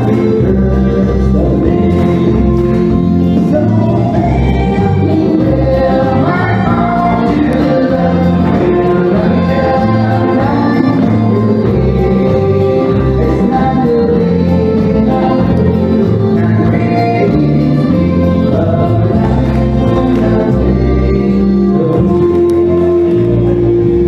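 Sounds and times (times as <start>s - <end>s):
electric guitar: 0.0s - 24.0s
man singing: 0.0s - 24.0s.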